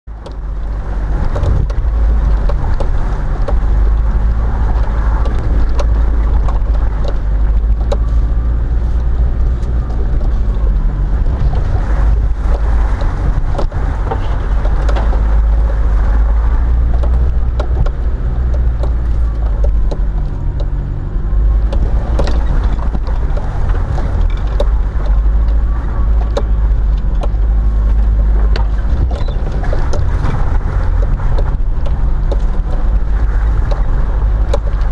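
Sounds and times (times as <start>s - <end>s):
vehicle engine and road rumble: 0.0s - 34.9s
knocks and rattles of bumping: 0.1s - 34.9s.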